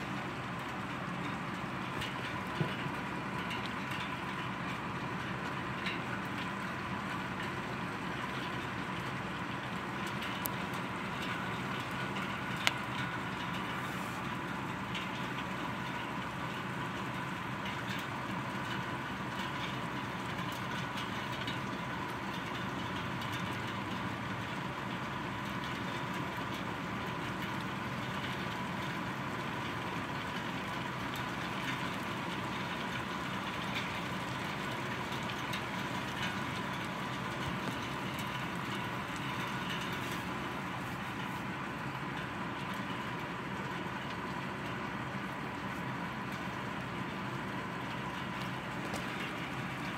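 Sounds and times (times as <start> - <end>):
faint steady hum: 0.0 - 49.9
heavy rain falling: 0.0 - 49.9.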